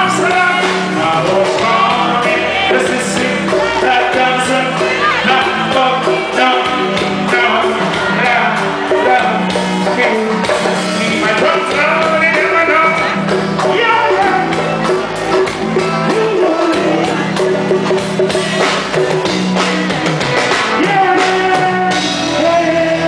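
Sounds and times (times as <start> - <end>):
man singing: 0.0 - 14.9, 15.7 - 17.8, 20.6 - 23.0
live reggae band: 0.0 - 23.0
steady bass line: 0.0 - 23.0.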